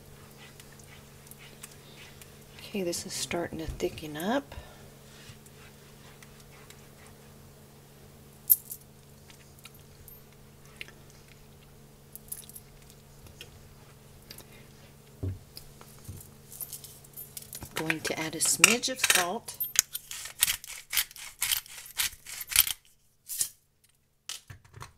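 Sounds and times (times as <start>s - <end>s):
steady low hum: 0.0s - 20.7s.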